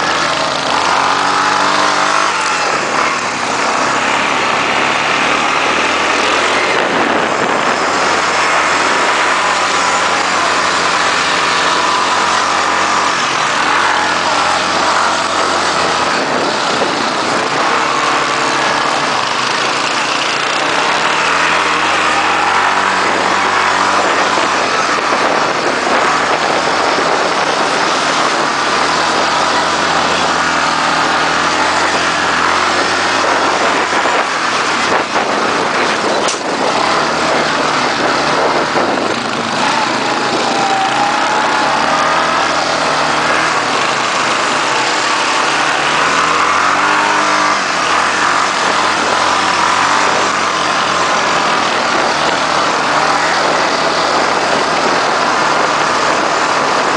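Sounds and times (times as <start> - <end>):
quad bike engines revving: 0.0 - 56.9
steady rushing noise: 0.0 - 56.9.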